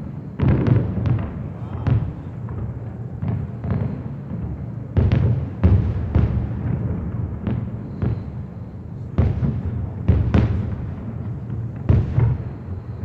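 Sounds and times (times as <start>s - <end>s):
continuous low rumble: 0.0s - 13.0s
fireworks bangs: 0.0s - 13.0s.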